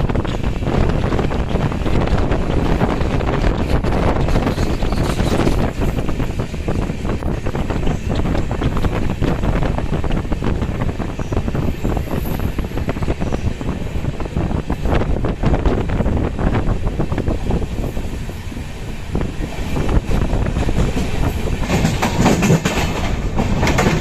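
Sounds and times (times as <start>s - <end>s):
train rumbling and clicking: 0.0s - 24.0s
wind buffeting microphone: 0.0s - 24.0s.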